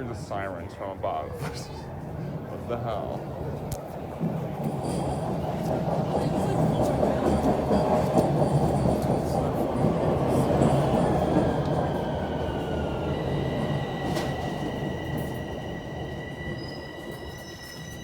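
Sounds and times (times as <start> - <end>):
subway train wheel rumble: 0.0 - 18.0.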